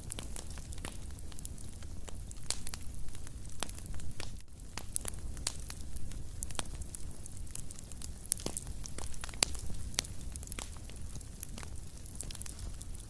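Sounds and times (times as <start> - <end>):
low rumble of burning: 0.0 - 13.0
wood fire crackling: 0.0 - 13.0.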